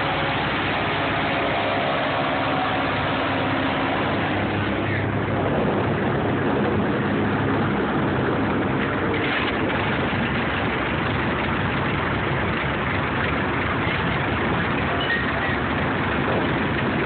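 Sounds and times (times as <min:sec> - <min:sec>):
airboat engine and propeller: 0:00.0 - 0:17.0.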